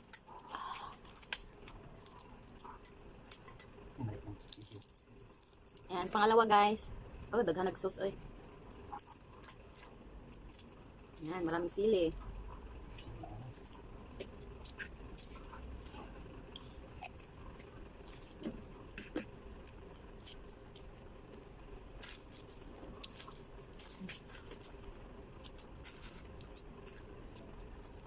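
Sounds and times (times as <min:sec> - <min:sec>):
eggshell crackling and crunching: 0:00.0 - 0:06.2, 0:08.6 - 0:11.2, 0:12.1 - 0:28.0
faint steady hum: 0:00.0 - 0:28.0.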